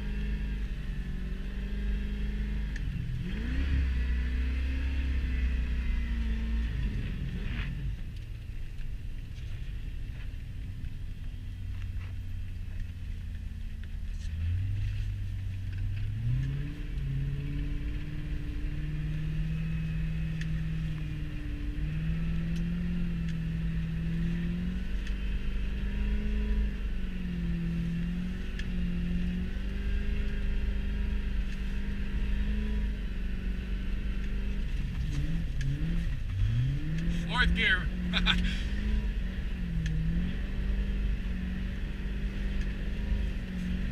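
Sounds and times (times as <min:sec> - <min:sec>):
car engine revving: 0:00.0 - 0:08.2, 0:11.7 - 0:43.9.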